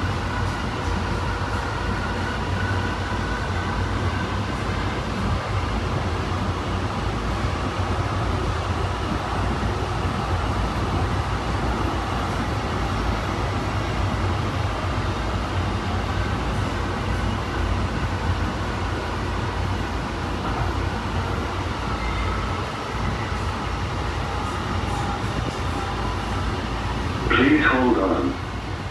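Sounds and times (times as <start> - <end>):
steel wheels rumbling on rail: 0.0 - 28.9.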